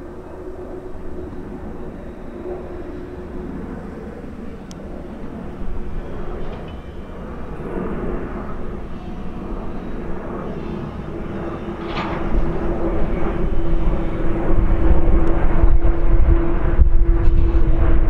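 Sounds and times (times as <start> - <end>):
jet engines passing overhead: 0.0 - 18.0.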